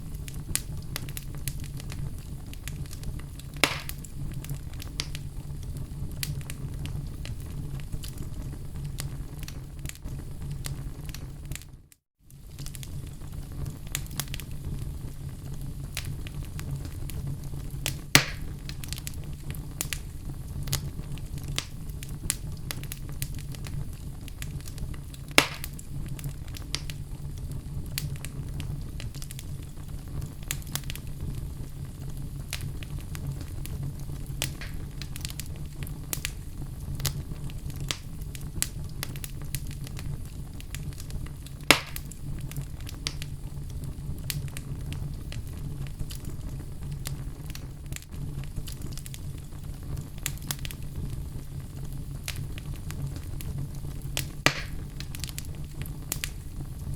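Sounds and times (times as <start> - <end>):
sharp fire pops: 0.0 - 56.9
wood fire crackling: 0.0 - 56.9.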